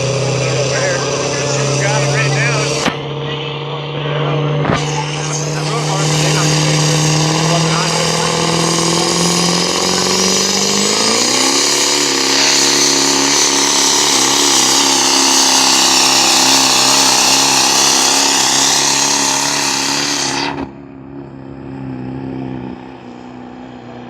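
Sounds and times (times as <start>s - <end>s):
truck engine revving and idling: 0.0s - 24.0s.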